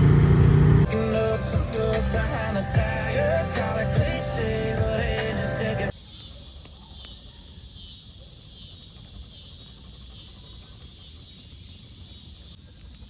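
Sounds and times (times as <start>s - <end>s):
insects chirring: 1.1s - 13.0s.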